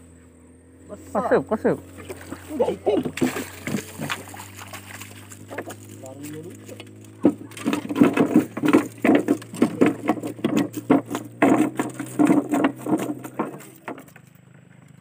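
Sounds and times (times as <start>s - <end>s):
fish thrashing on wooden floor: 1.9s - 14.4s.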